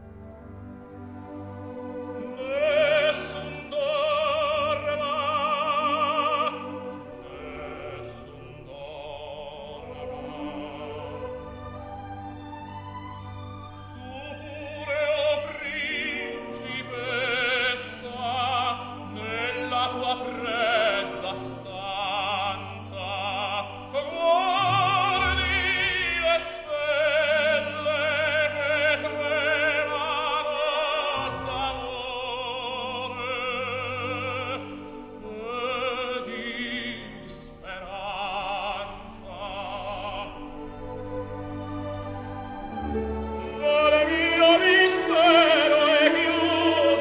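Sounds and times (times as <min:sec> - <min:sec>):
operatic singing: 0:00.0 - 0:47.0
orchestral accompaniment: 0:00.0 - 0:47.0.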